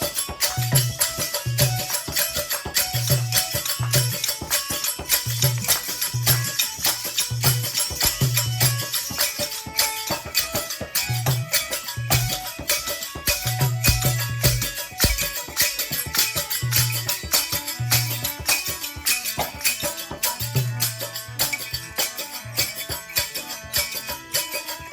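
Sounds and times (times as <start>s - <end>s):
jingling shaker percussion: 0.0s - 24.9s.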